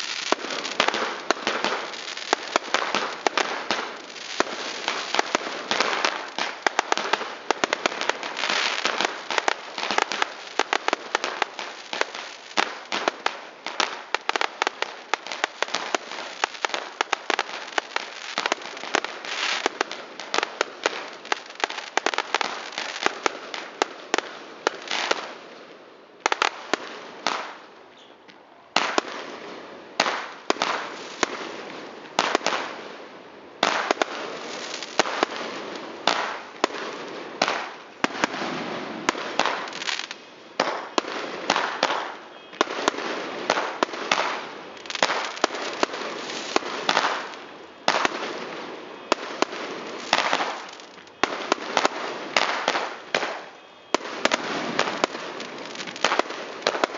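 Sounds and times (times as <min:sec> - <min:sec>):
fireworks crackling and popping: 0:00.0 - 0:56.9.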